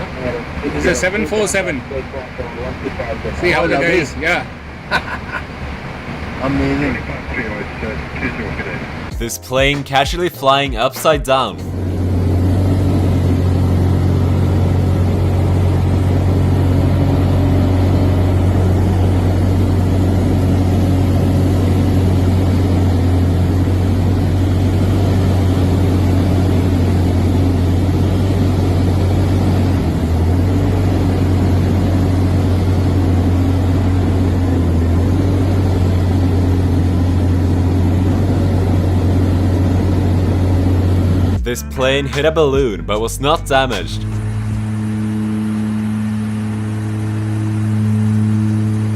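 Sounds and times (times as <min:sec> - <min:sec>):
aircraft engine droning: 0:00.0 - 0:09.4, 0:10.7 - 0:41.5, 0:42.6 - 0:48.9.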